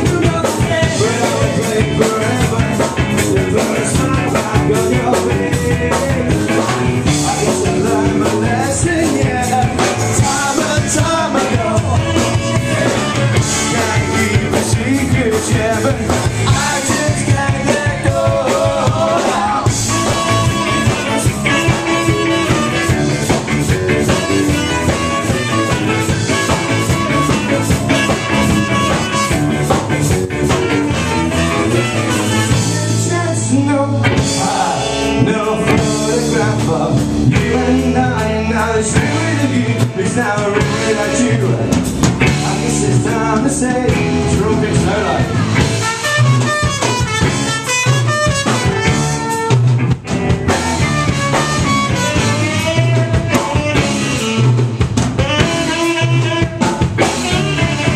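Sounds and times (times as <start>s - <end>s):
person singing: 0.0s - 29.2s, 30.8s - 47.3s, 50.8s - 54.6s
saxophone: 0.0s - 38.0s, 39.0s - 57.9s
live rock band playing: 0.0s - 57.9s.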